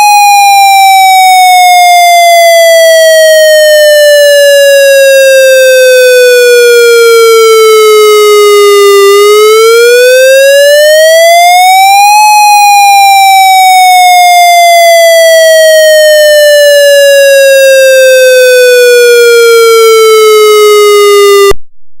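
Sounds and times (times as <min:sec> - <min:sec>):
electronic wail siren: 0:00.0 - 0:21.6.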